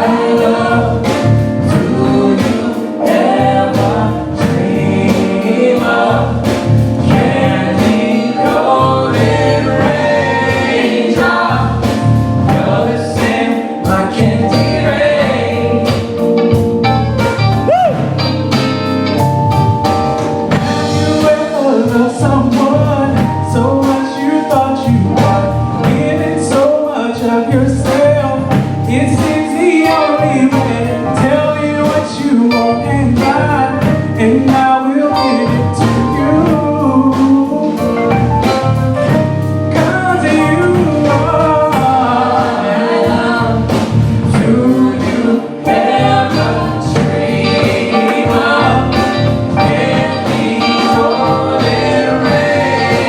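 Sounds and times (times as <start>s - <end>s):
beat with drums and guitar: 0.0s - 53.0s.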